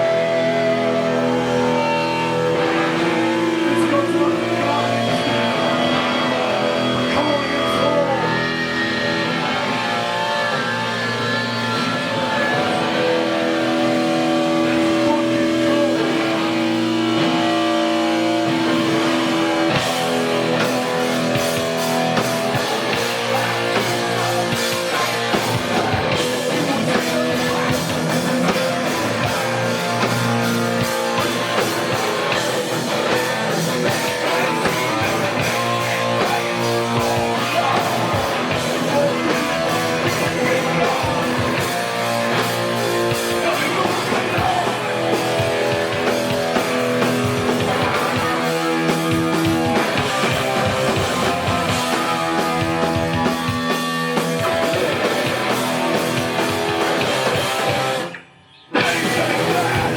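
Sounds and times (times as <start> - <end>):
distorted electric guitars: 0.0 - 59.9.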